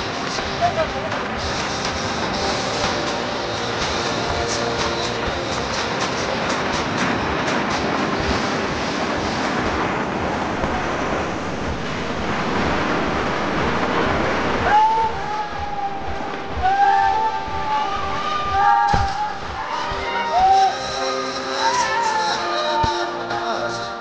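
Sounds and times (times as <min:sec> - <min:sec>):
wind buffeting microphone: 0:00.0 - 0:20.0
vehicle rumble: 0:00.0 - 0:20.1.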